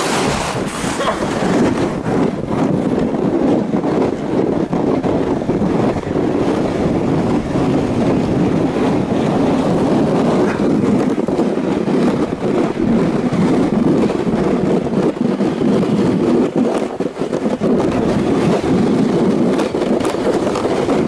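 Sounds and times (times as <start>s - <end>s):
sled sliding over snow: 0.0s - 21.0s
wind on microphone: 0.0s - 21.0s.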